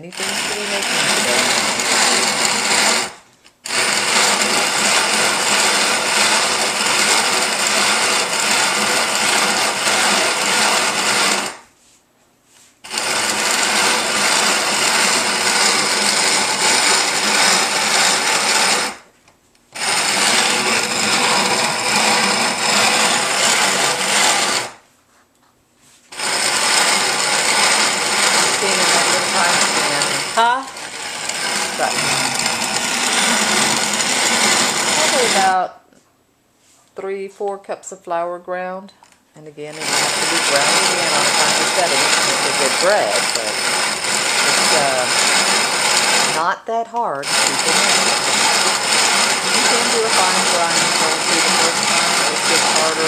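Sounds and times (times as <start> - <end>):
hand-cranked grain mill rattling: 0.1 - 11.6, 12.8 - 19.0, 19.8 - 24.8, 26.1 - 35.6, 39.8 - 46.5, 47.2 - 53.0.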